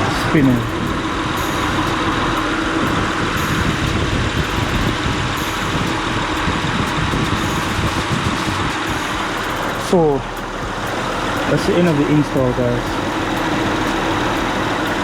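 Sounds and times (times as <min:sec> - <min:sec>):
car engine idling: 0:00.0 - 0:15.0
cooling fans spinning: 0:00.0 - 0:15.0.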